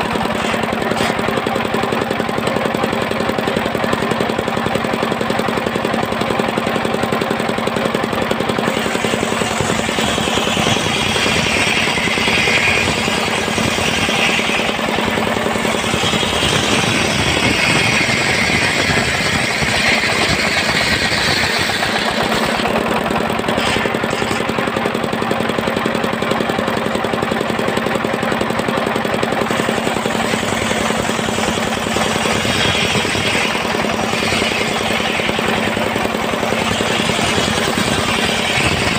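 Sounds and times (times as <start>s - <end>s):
saw blade cutting wood: 0.0s - 38.9s
sawmill engine running: 0.0s - 38.9s.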